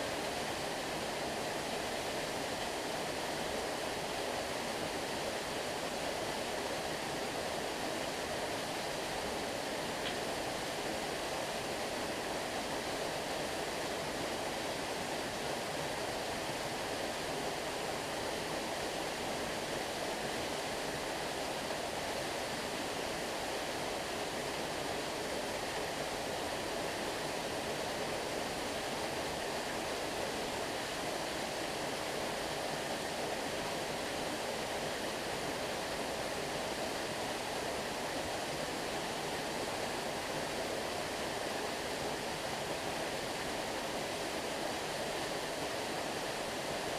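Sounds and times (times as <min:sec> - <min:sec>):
stream water flowing: 0:00.0 - 0:46.9.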